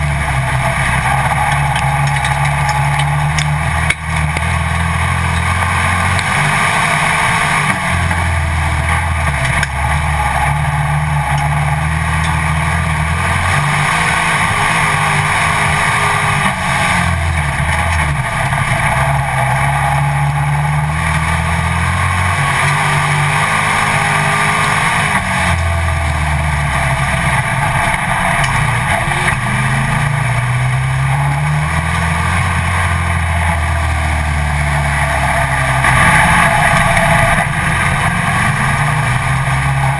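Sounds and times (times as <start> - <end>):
race car engine revving: 0.0 - 39.9
track noise: 0.0 - 39.9.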